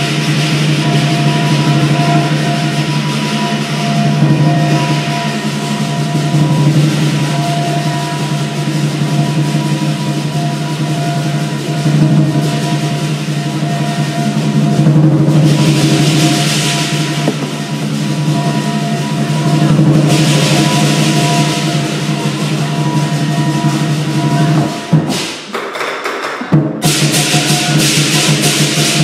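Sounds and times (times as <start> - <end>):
gong: 0.0 - 25.5, 26.7 - 29.0
cymbals crashing: 0.0 - 29.0
lion dance drum: 0.0 - 29.0.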